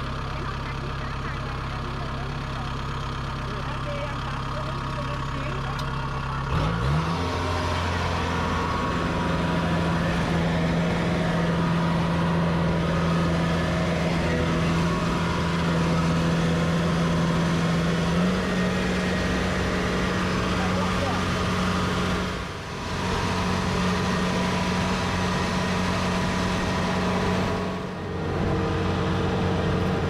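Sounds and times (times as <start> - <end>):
combine harvester engine revving: 0.0 - 30.0.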